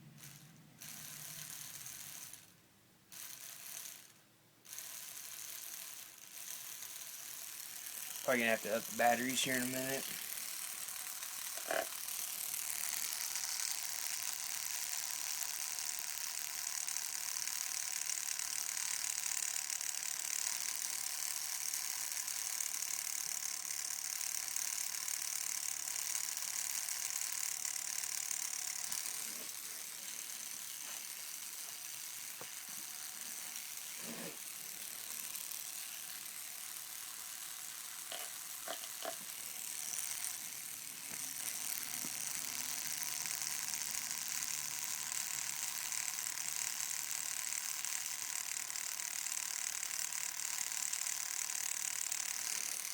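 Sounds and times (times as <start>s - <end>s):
tattoo machine buzzing: 0.0s - 2.5s, 3.1s - 4.1s, 4.7s - 52.9s.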